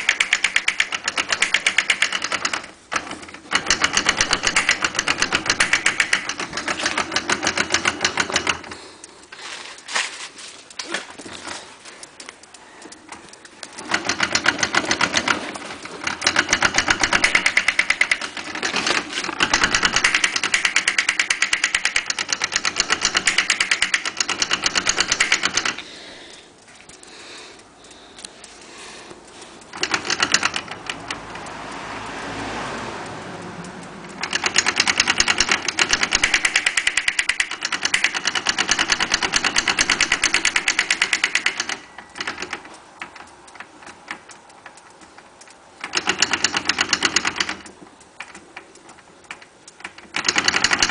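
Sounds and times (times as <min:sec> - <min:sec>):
rapid mechanical clicking rattle: 0:00.0 - 0:50.9.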